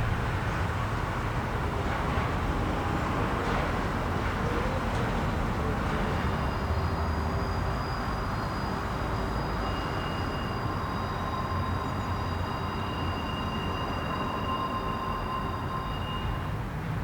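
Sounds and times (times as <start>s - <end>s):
freight train rumbling: 0.0s - 17.0s.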